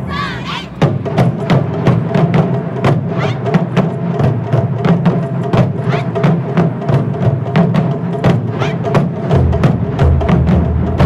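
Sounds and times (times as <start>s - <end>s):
drum ensemble playing: 0.0s - 11.0s.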